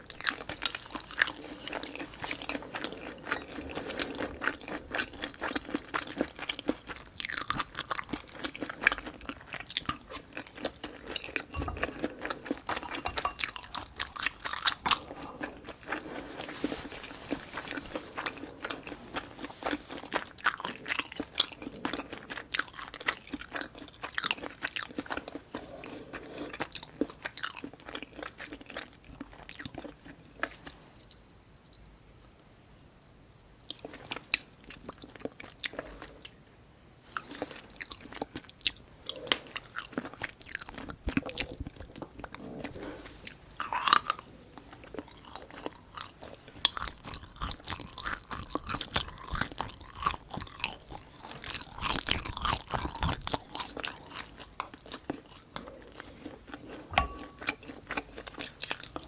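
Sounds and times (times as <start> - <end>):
close chewing crunches: 0.0 - 30.7, 37.1 - 59.0.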